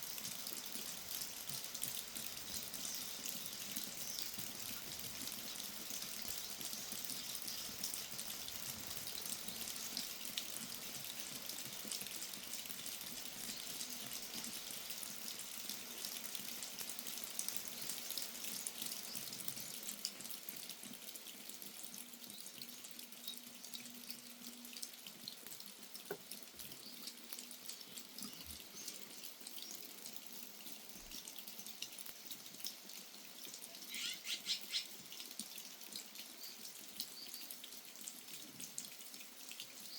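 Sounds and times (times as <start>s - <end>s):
rain falling and dripping: 0.0s - 39.9s.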